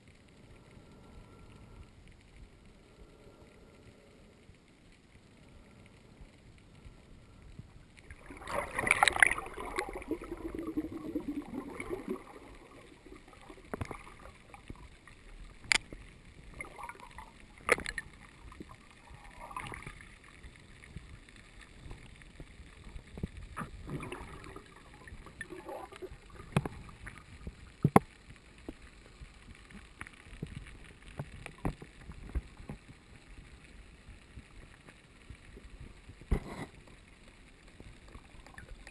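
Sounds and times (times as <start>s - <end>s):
low water hiss: 0.0s - 38.9s
underwater rushing and gurgling: 0.0s - 38.9s.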